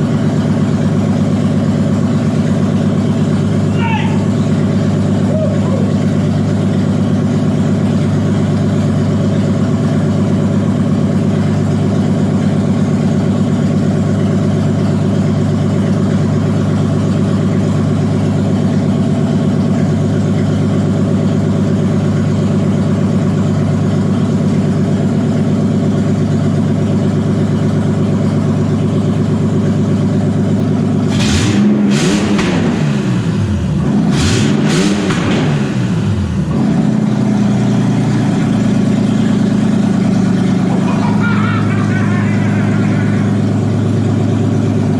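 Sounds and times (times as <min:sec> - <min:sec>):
engine idling and revving: 0:00.0 - 0:44.9.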